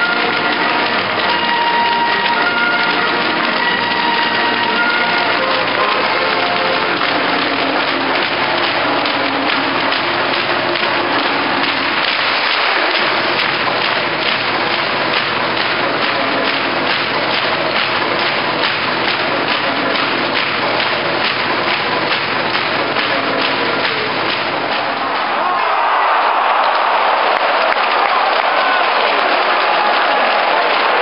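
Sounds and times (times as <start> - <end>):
crowd cheering and applauding: 0.0 - 31.0
rhythmic clapping: 0.0 - 31.0.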